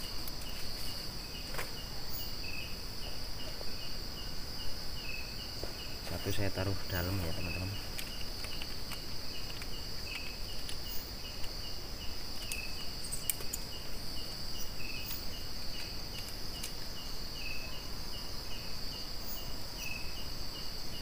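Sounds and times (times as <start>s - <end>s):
crickets chirping: 0.0s - 21.0s
high-pitched insect drone: 0.0s - 21.0s
lower insect chirp: 0.0s - 21.0s.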